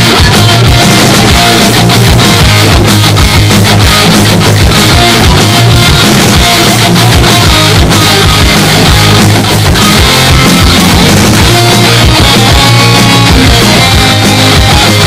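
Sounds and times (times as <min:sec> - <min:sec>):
distorted electric guitar: 0:00.0 - 0:15.0
driving drum beat: 0:00.0 - 0:15.0.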